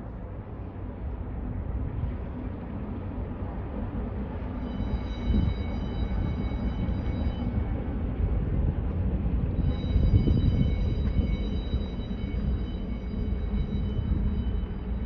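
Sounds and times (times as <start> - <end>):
high steady whine: 0.0 - 15.0.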